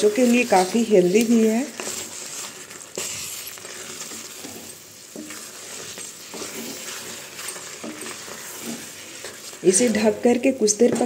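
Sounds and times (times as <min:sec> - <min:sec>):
gravy sizzling in a pan: 0:00.0 - 0:11.0
wooden spatula scraping pan: 0:00.0 - 0:11.0.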